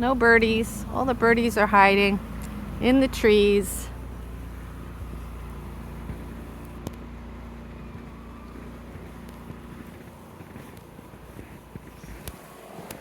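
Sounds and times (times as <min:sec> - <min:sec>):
distant snow blower engine: 0:00.0 - 0:13.0.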